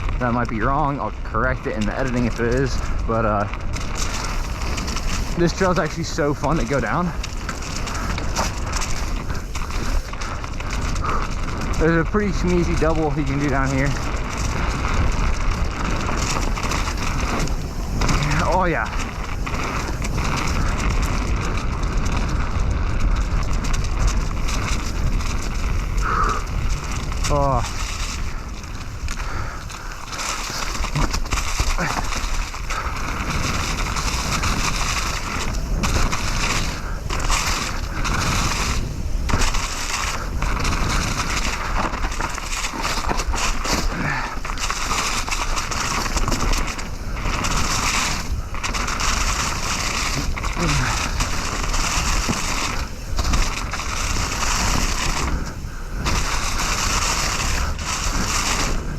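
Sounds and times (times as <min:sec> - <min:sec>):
bike rattling clicks: 0:00.0 - 0:58.9
tyres rumbling on dirt: 0:00.0 - 0:58.9
wind rushing on microphone: 0:00.0 - 0:58.9.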